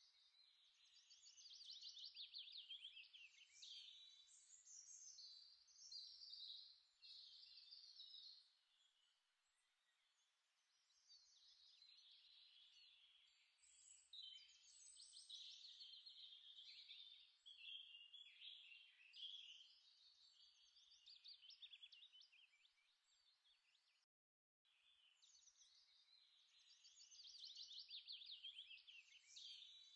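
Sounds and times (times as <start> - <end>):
small birds chirping: 0.0 - 24.1, 24.7 - 29.9.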